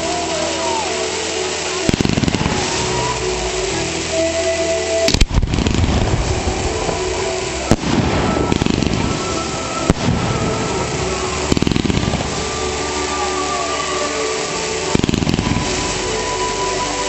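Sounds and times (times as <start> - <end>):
fireworks crackles: 0.0 - 17.0
steady rushing background: 1.2 - 17.0
fireworks bangs: 1.8 - 4.3, 5.0 - 16.3.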